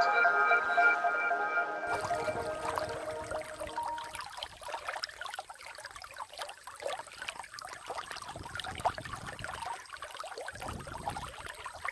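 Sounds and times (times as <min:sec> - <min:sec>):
water trickling and gurgling: 0:01.9 - 0:11.9.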